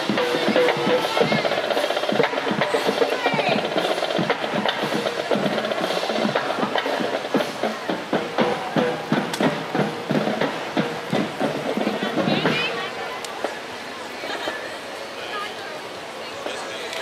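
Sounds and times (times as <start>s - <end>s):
drumline playing drums: 0.0s - 16.6s
voices of onlookers: 0.0s - 17.0s.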